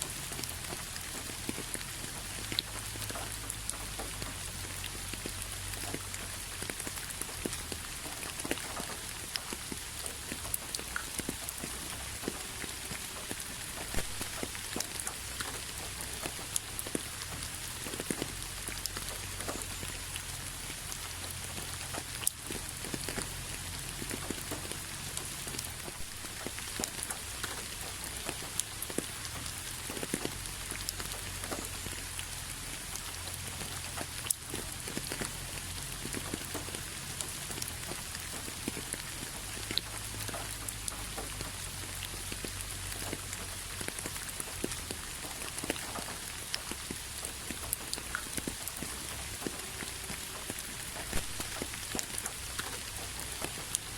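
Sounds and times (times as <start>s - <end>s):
rain pattering on hard surface: 0.0s - 53.9s.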